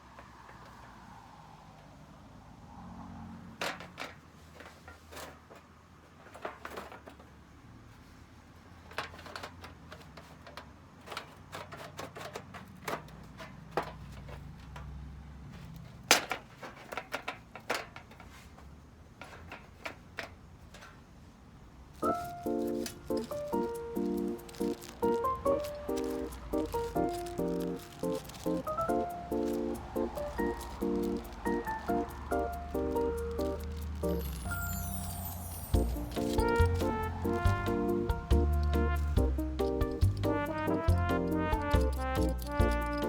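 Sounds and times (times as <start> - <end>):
metal parts clicking and knocking: 3.6 - 7.4, 8.8 - 15.0, 15.7 - 21.1, 22.0 - 43.0.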